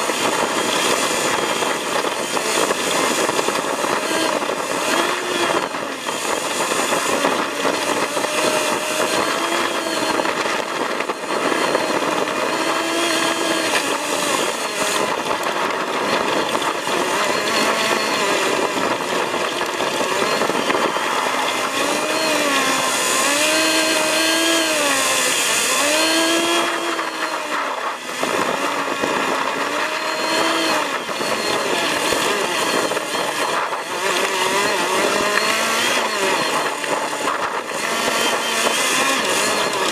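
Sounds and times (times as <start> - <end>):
sped up vehicle engine revving: 0.0 - 39.9.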